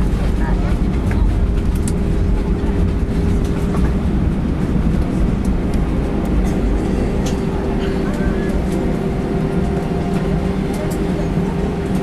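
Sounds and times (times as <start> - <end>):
engines and wheels rumbling: 0.0 - 12.0
steady cabin hum: 0.0 - 12.0.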